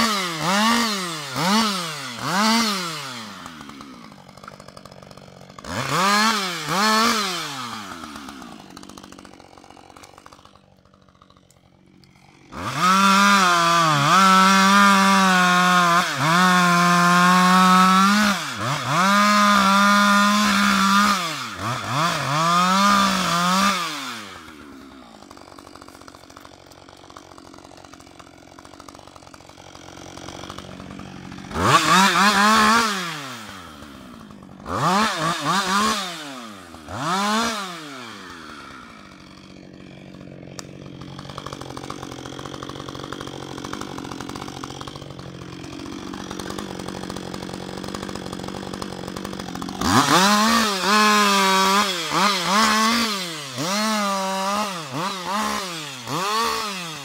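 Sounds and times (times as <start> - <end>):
chainsaw cutting log: 0.0 - 57.0
chainsaw idling: 0.0 - 57.0
chainsaw revving: 0.0 - 57.0.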